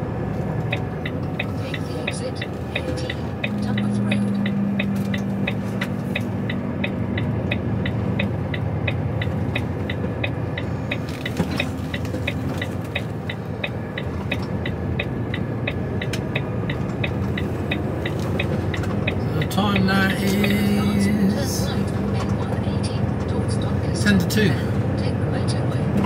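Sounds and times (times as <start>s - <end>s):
diesel engine and road noise: 0.0s - 26.0s
turn indicator ticking: 0.0s - 26.0s.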